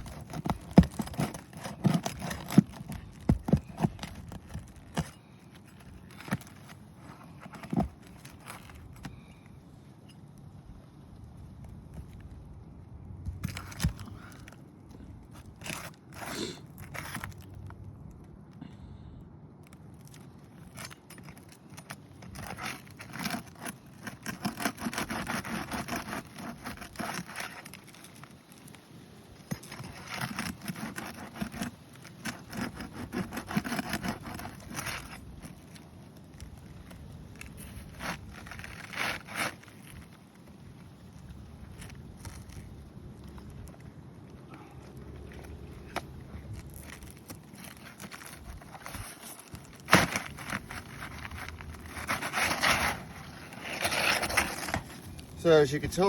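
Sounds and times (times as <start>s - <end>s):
roof shingles scraping and crackling: 0.0s - 9.8s, 13.4s - 18.2s, 19.6s - 56.0s.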